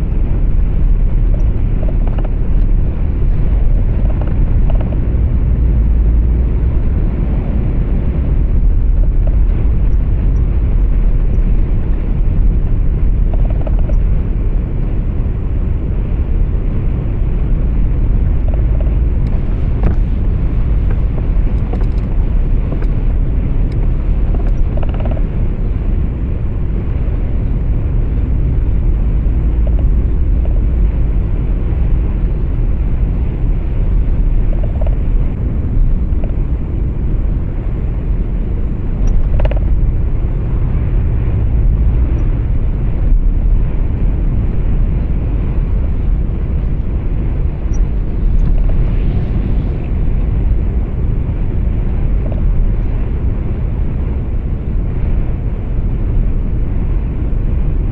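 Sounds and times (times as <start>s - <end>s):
road noise: 0.0s - 57.9s
truck engine rumble: 0.0s - 57.9s.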